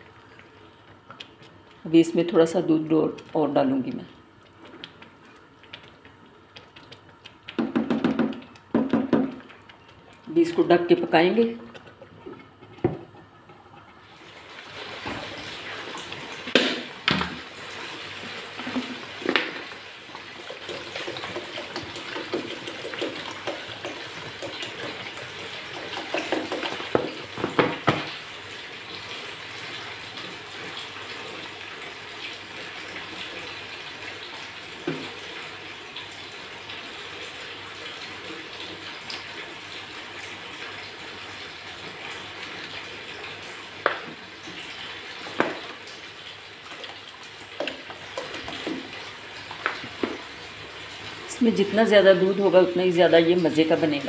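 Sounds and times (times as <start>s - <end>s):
milk simmering bubbling: 2.9s - 52.6s.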